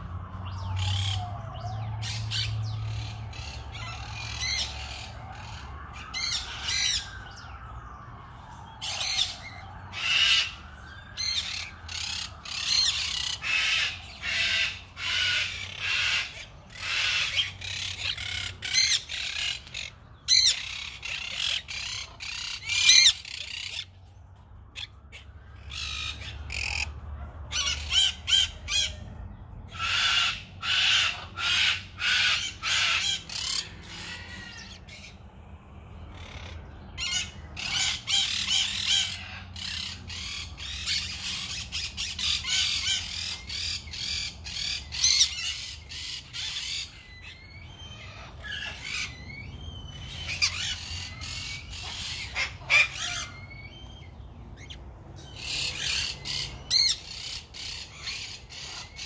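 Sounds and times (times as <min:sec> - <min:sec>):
parrots squawking: 0:00.6 - 0:07.2, 0:08.8 - 0:24.0, 0:24.7 - 0:29.0, 0:29.7 - 0:35.3, 0:36.0 - 0:59.0.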